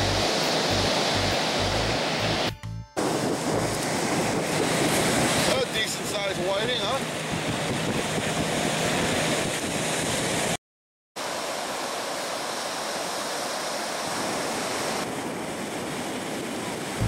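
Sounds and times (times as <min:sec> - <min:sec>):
surf breaking on a beach: 0:00.0 - 0:10.6, 0:11.2 - 0:17.0.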